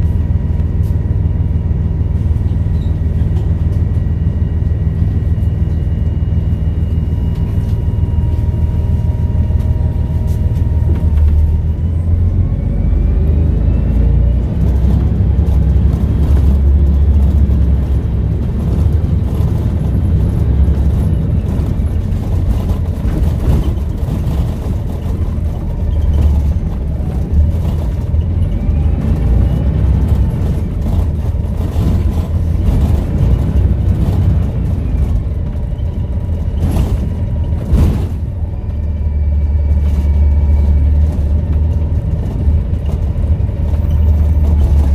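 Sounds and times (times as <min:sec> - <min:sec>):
bus diesel engine under load: 0:00.0 - 0:44.9.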